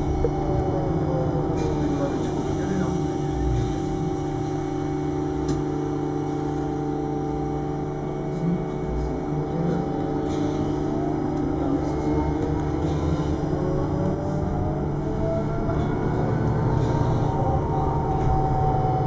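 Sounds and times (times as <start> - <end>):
electric motor hum and whine: 0.0 - 19.0.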